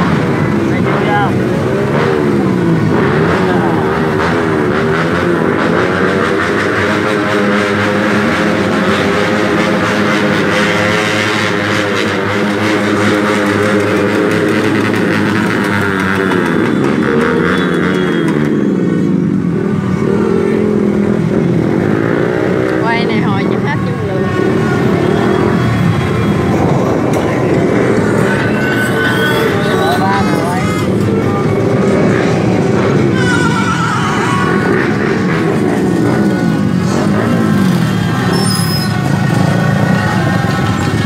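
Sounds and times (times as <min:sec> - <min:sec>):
din of many motorbikes: 0:00.0 - 0:41.0.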